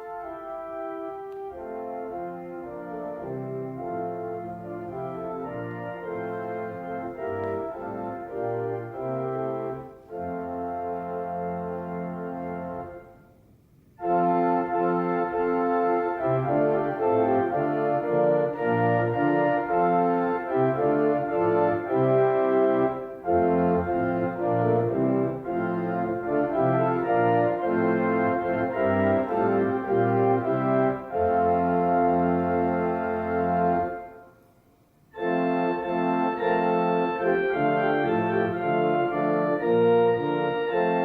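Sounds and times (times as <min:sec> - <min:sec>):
church organ playing chords: 0:00.0 - 0:13.3, 0:14.0 - 0:34.4, 0:35.1 - 0:41.0.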